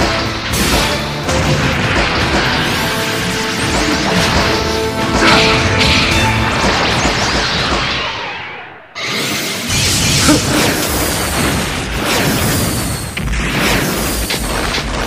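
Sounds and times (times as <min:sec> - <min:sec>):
dramatic background music: 0:00.0 - 0:13.4.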